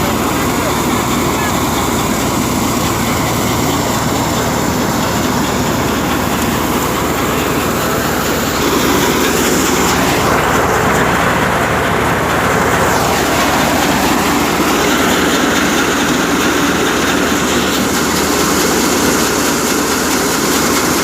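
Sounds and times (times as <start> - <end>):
farm machinery clattering: 0.0 - 21.0.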